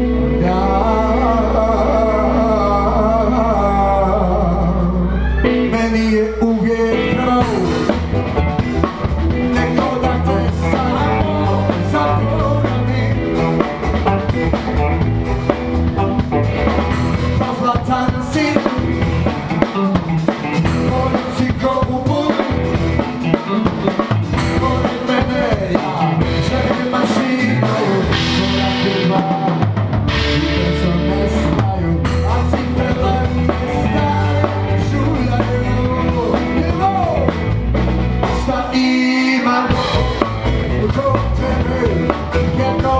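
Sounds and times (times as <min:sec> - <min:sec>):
live band playing: 0:00.0 - 0:42.9
drum kit beat: 0:06.9 - 0:42.9.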